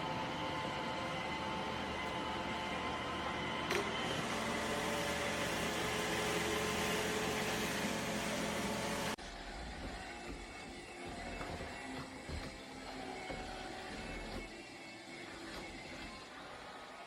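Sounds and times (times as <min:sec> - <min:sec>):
mechanical whirr and hum: 0:00.0 - 0:17.0.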